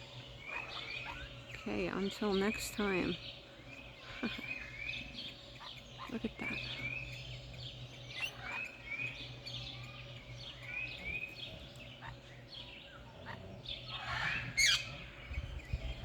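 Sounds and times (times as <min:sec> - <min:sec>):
low hum: 0:00.0 - 0:16.0
parrots chirping: 0:00.1 - 0:16.0.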